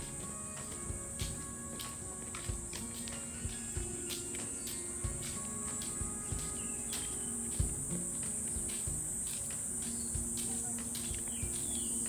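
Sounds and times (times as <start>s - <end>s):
cicadas singing: 0.0s - 12.0s
soft footsteps: 0.0s - 12.0s.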